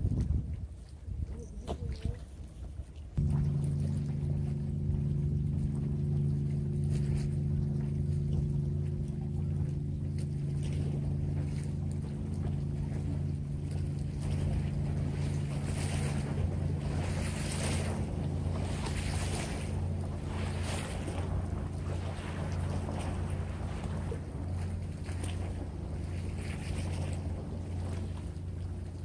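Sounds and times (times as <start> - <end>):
water wash: 0.0 - 29.0
wind: 0.0 - 29.0
engine idling hum: 2.8 - 29.0.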